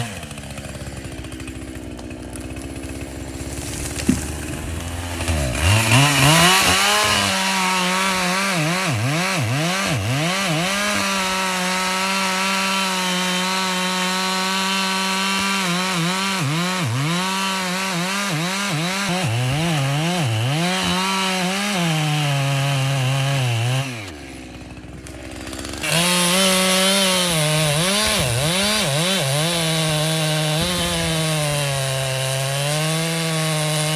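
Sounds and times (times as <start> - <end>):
chainsaw cutting wood: 0.0 - 33.9
chainsaw idling and revving: 0.0 - 33.9.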